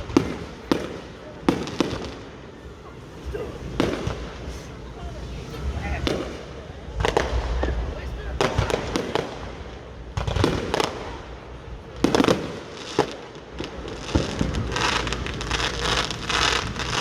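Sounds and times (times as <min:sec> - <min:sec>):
firework bangs: 0:00.0 - 0:17.0
fireworks crackling: 0:00.0 - 0:17.0.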